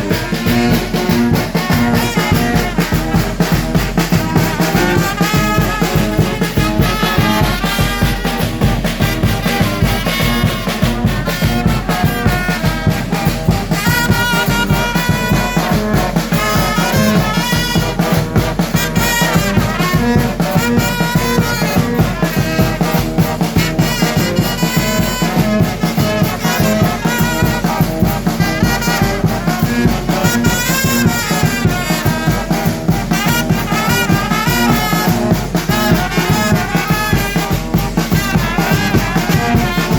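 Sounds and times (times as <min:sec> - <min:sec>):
brass band playing: 0:00.0 - 0:39.9
steady drum beat: 0:00.0 - 0:39.9.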